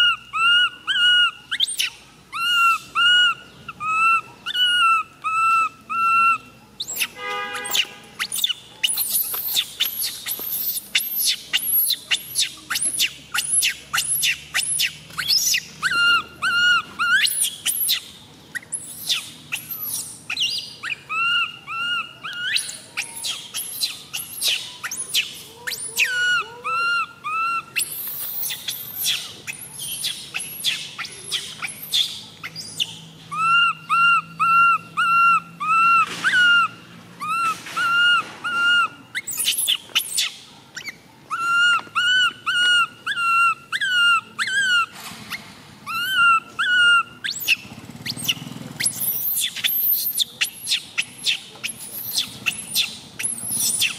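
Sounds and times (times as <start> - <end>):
baby monkey crying: 0.0 - 53.9.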